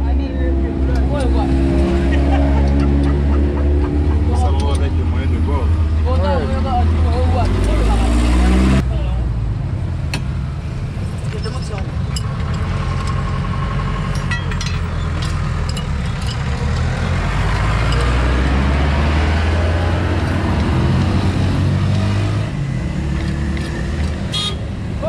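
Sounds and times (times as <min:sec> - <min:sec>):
diesel truck engine revving: 0:00.0 - 0:10.0, 0:12.2 - 0:25.0.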